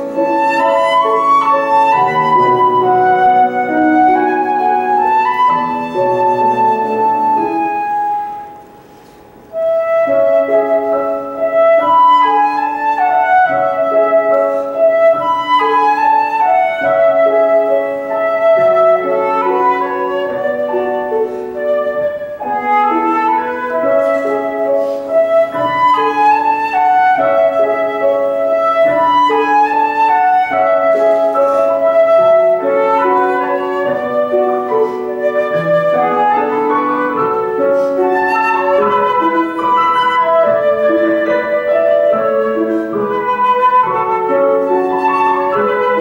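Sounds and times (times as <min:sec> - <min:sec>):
flute playing melody: 0:00.0 - 0:46.0
piano accompaniment: 0:00.0 - 0:46.0.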